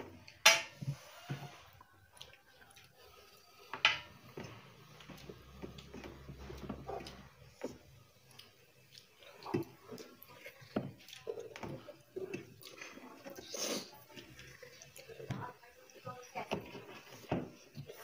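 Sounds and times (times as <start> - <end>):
people chewing: 0.0 - 18.0.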